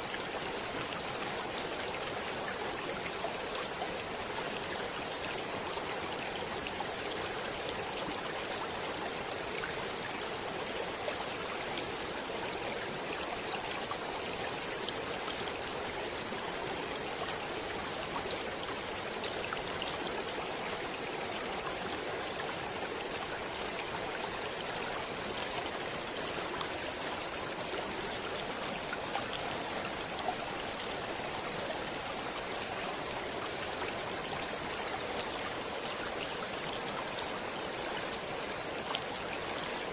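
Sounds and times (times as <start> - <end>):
shallow stream flowing: 0.0 - 39.9.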